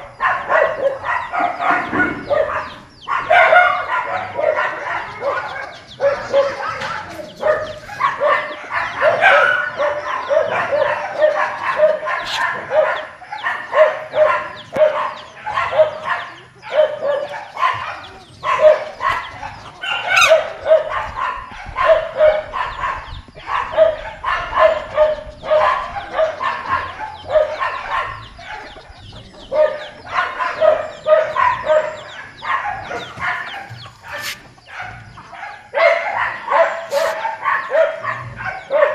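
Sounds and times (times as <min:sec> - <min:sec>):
chickens clucking and squawking: 0:00.0 - 0:38.9.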